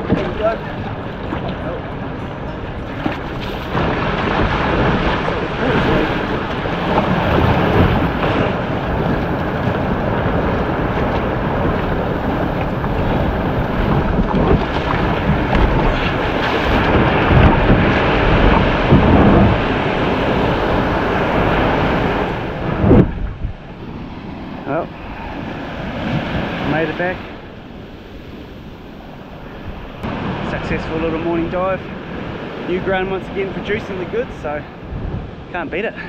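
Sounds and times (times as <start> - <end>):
surf breaking: 0.0 - 35.9
water rushing around kayak hull: 0.0 - 36.0
wind buffeting microphone: 0.0 - 36.0.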